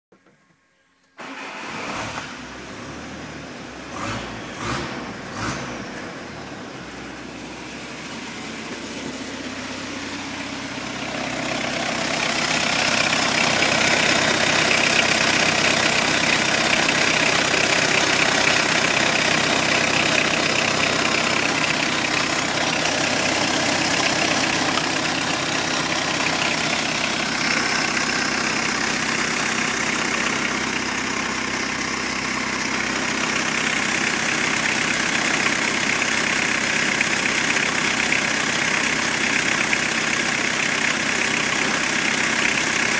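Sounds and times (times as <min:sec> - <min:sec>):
diesel engine idling: 0:02.4 - 0:42.9.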